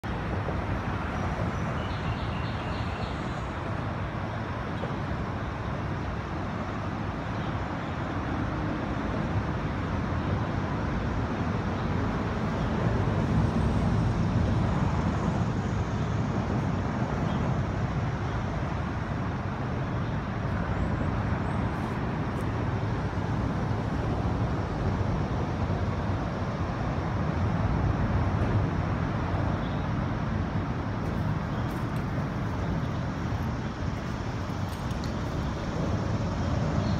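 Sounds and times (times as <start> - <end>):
highway traffic rumble: 0.0 - 36.9.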